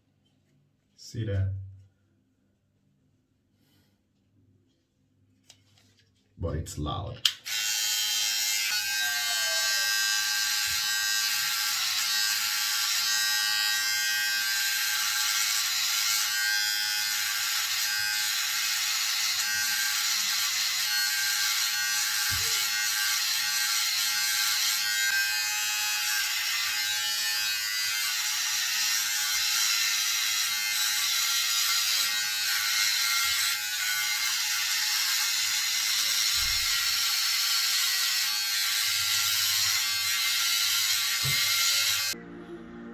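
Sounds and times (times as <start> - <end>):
electric hair clipper whining: 7.2 - 42.2.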